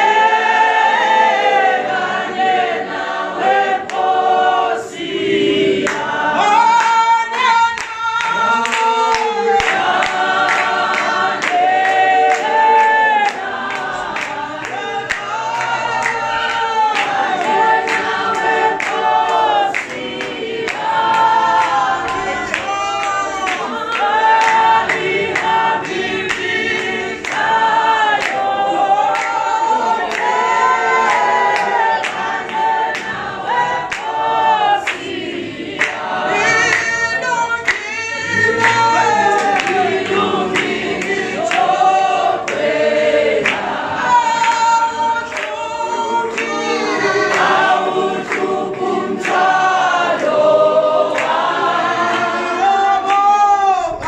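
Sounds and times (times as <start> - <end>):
choir singing gospel song: 0.0 - 54.0.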